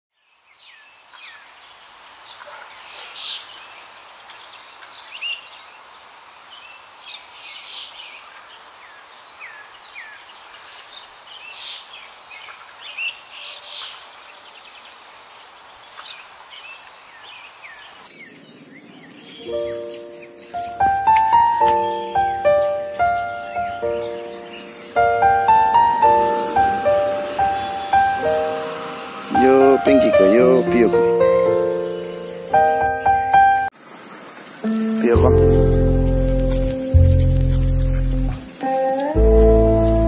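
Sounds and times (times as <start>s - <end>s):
birds chirping: 0.2s - 40.0s
steady background hiss: 0.2s - 40.0s.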